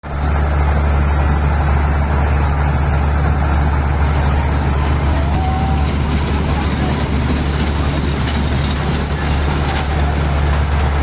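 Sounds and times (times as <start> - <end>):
ride train droning: 0.2 - 11.0.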